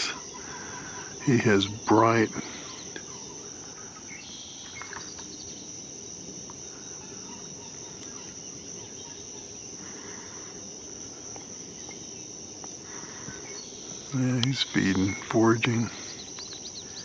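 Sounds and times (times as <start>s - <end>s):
faint bird calls: 0.0s - 12.1s, 12.8s - 17.0s
insect chorus trilling: 0.0s - 17.0s
low outdoor background noise: 0.0s - 17.0s.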